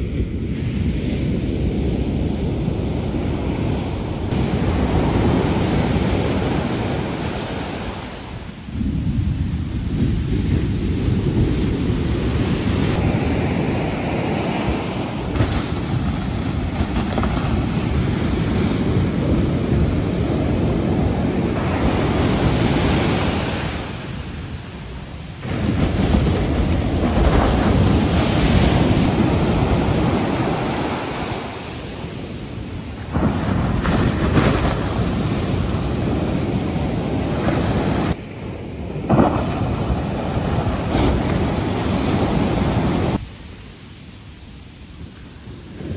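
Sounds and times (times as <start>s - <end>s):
wind on microphone: 0.0s - 43.6s
waves crashing on shore: 0.0s - 45.9s.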